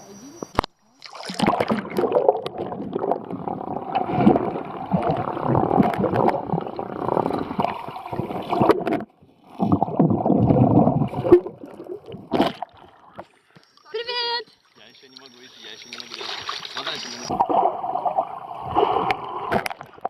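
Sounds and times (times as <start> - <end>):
water sloshing and gurgling: 0.5 - 20.0.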